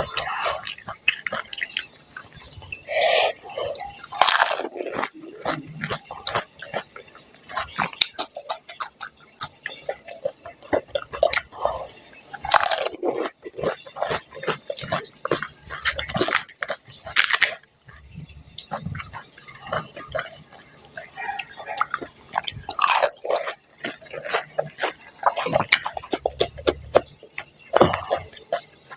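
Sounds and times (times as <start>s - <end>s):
crisp food crunching: 0.0s - 28.9s.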